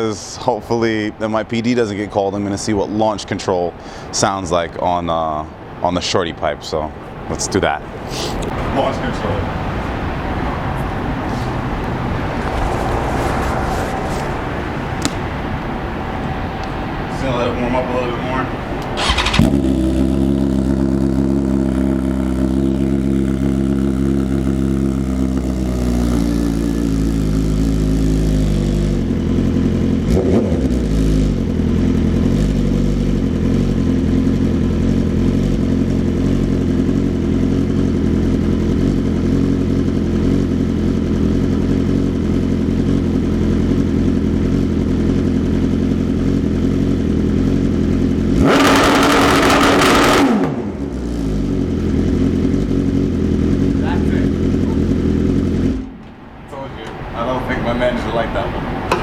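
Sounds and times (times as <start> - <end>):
motorcycle engine idling and revving: 8.5 - 56.4.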